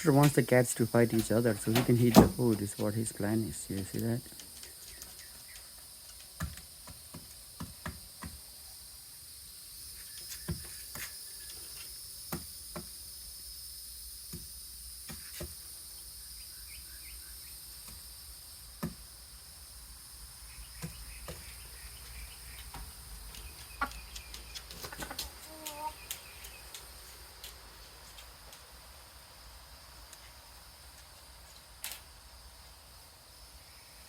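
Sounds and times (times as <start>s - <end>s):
insects chorus: 0.0s - 34.0s.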